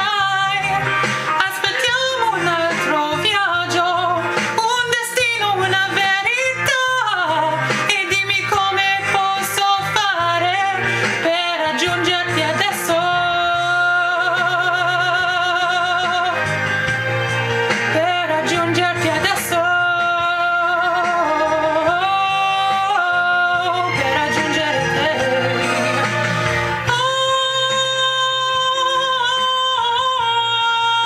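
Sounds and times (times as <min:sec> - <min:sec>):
person singing pop ballad: 0:00.0 - 0:31.0.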